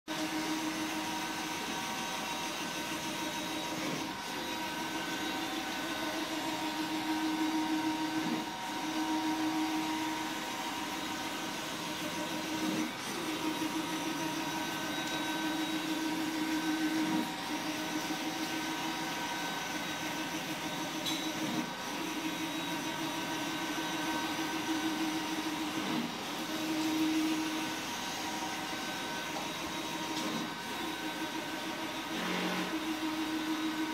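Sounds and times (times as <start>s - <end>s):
printer carriage motor humming: 0.1s - 33.9s.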